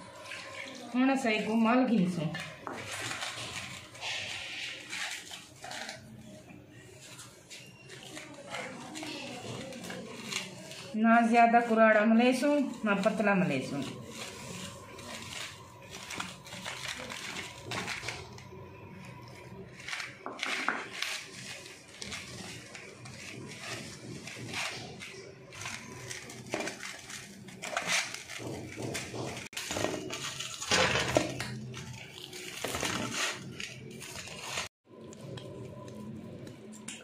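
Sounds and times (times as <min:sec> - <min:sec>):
hands rubbing dough in metal bowl: 0:00.0 - 0:18.2, 0:19.0 - 0:30.5.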